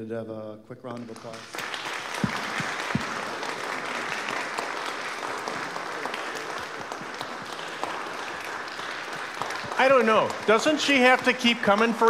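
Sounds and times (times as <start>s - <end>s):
people applauding: 0.9s - 12.0s.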